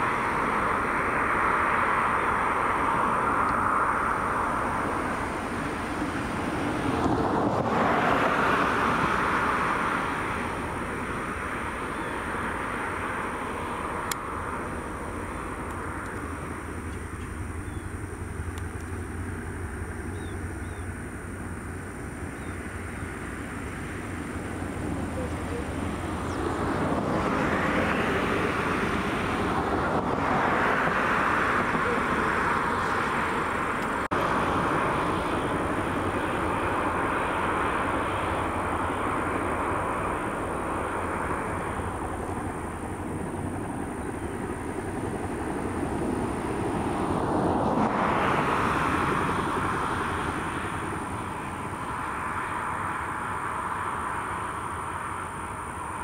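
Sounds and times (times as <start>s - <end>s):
helicopter rotors and engines: 0.0s - 56.0s.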